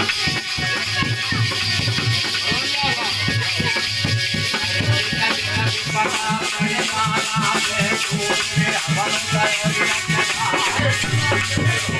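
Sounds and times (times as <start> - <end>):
fast drum beat: 0.0 - 11.9
jingling percussion: 0.0 - 11.9.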